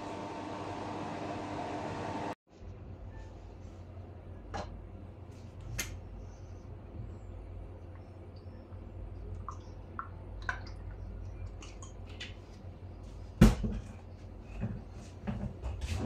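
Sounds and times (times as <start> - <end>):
low steady hum: 2.5 - 16.0.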